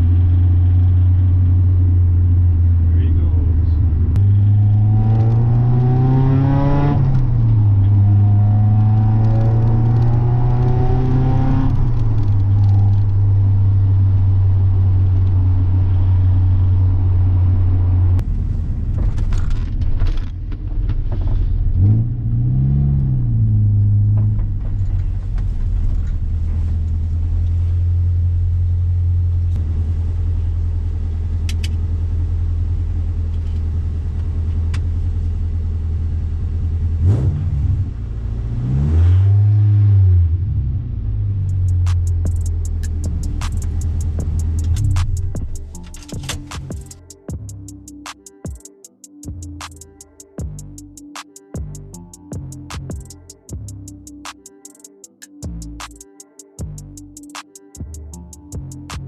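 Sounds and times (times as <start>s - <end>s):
car engine revving and cruising: 0.0s - 48.2s, 49.2s - 54.3s, 57.8s - 59.0s.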